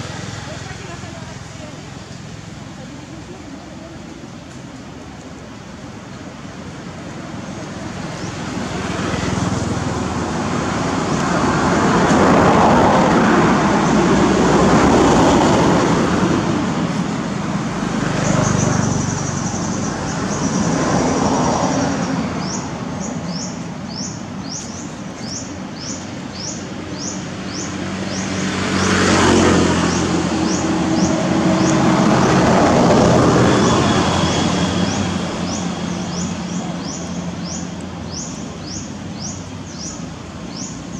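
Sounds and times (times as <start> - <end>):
road vehicles passing: 0.0 - 40.9.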